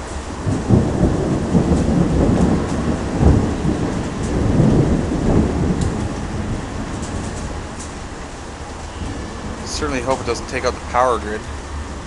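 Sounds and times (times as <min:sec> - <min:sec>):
rain: 0:00.0 - 0:12.0
rolling thunder: 0:00.0 - 0:12.0.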